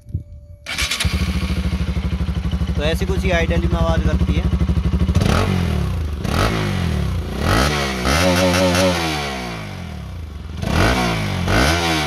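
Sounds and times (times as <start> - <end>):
motorcycle engine revving: 0.7 - 12.0.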